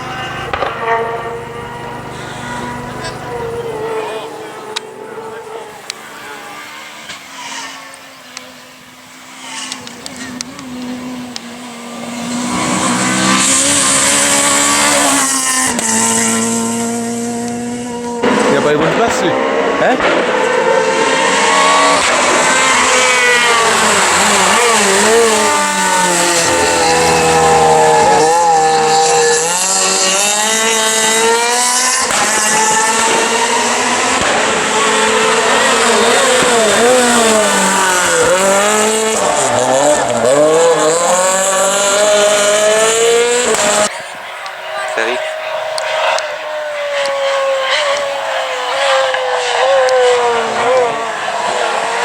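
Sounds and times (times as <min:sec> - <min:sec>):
rally car engine revving hard: 0:00.0 - 0:52.0.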